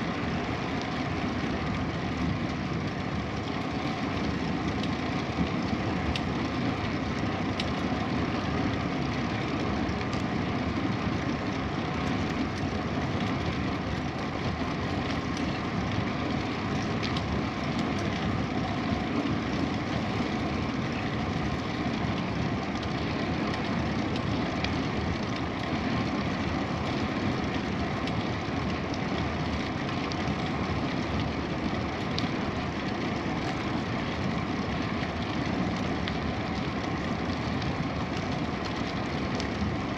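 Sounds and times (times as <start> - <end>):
bicycle tyres on road: 0.0 - 39.9.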